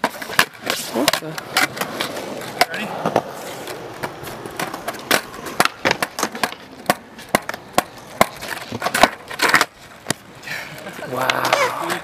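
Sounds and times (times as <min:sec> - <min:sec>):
skateboard clacking on concrete: 0:00.0 - 0:12.0.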